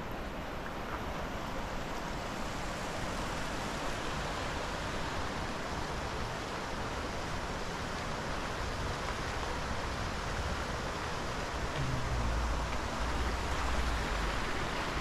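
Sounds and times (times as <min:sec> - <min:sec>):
mountain river rushing: 0:00.0 - 0:15.0.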